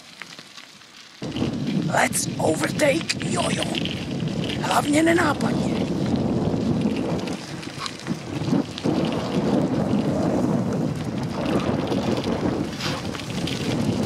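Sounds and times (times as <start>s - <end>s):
bicycle tyres rolling on gravel: 0.0s - 14.0s
wind buffeting microphone: 1.2s - 14.0s.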